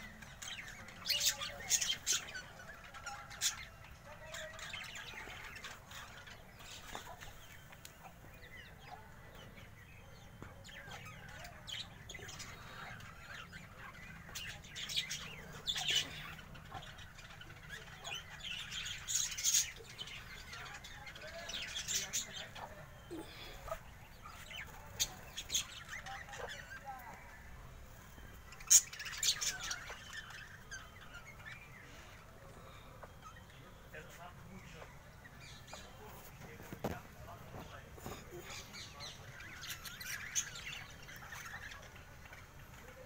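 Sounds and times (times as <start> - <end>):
budgerigars chirping: 0.0 - 43.0.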